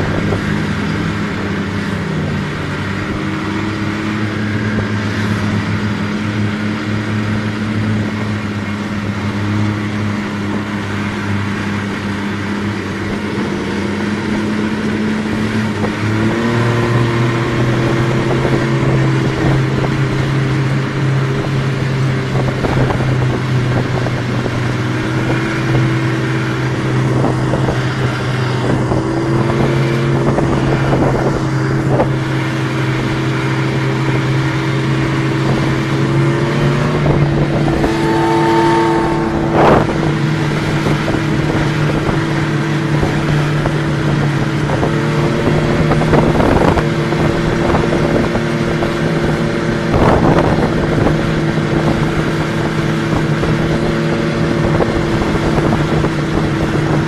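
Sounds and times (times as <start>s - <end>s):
snowmobile engine running: 0.0s - 57.0s
steady rushing noise: 0.0s - 57.0s.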